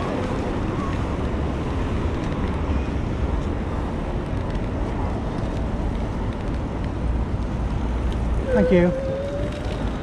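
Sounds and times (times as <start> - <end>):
bicycle road noise: 0.0 - 10.0
wind buffeting microphone: 0.0 - 10.0.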